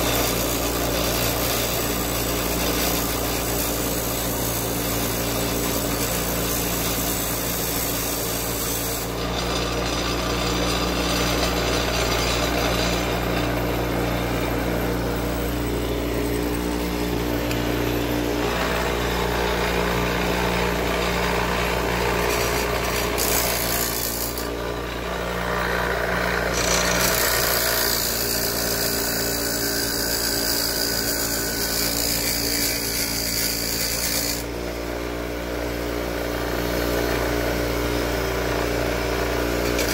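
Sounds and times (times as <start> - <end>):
power tool grinding: 0.0 - 39.9.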